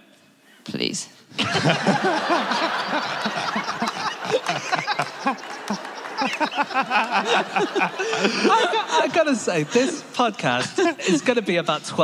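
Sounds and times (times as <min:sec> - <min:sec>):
audience laughing: 0:01.4 - 0:11.9.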